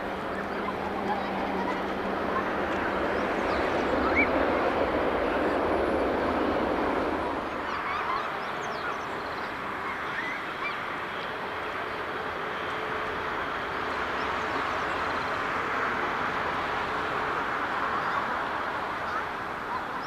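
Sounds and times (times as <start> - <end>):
distant jet airliner engine: 0.0 - 20.0.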